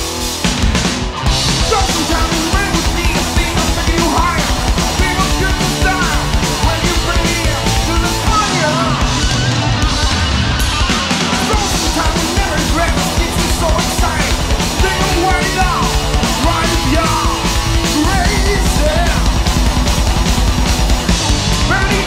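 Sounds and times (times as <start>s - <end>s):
heavy metal band playing: 0.0s - 22.0s.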